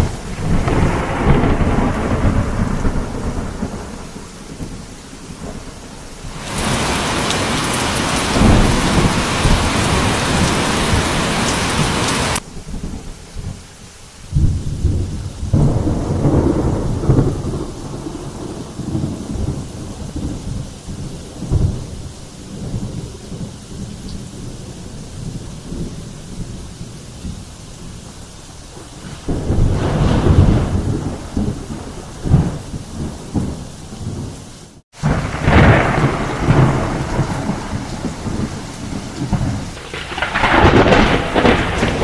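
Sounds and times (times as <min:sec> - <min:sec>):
thunder rumbling: 0:00.0 - 0:13.6, 0:14.4 - 0:26.4, 0:28.7 - 0:34.4, 0:35.0 - 0:42.0
heavy rain pouring: 0:00.0 - 0:42.0.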